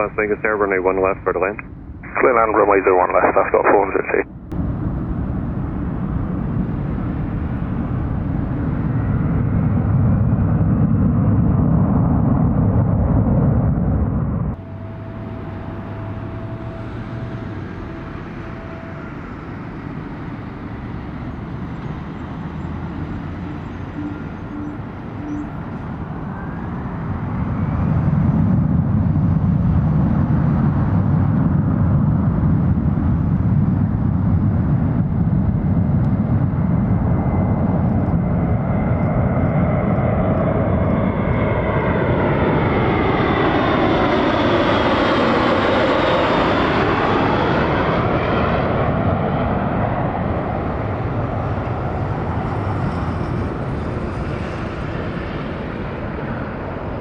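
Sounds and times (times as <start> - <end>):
turboprop aircraft engines: 0.0 - 57.0.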